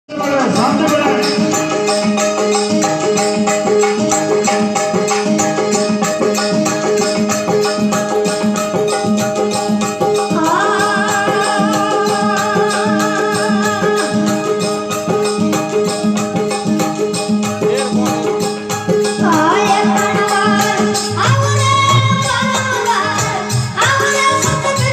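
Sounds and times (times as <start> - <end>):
wavering melodic line: 0.1 - 24.9.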